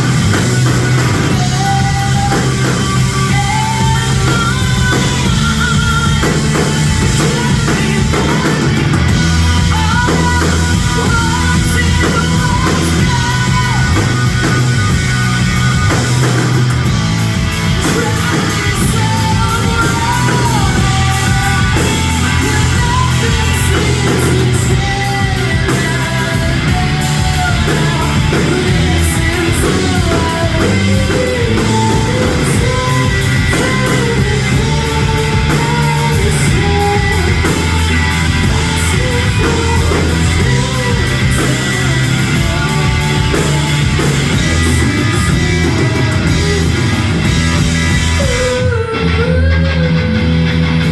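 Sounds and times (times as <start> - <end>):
person singing: 0.0 - 50.9
rock band playing live: 0.0 - 50.9.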